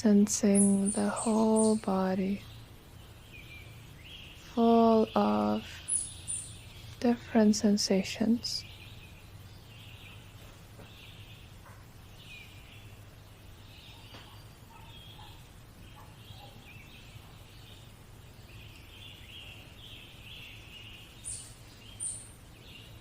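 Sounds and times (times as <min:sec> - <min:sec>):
faint low hum: 0:00.0 - 0:23.0
birds chirping and calling: 0:00.1 - 0:23.0.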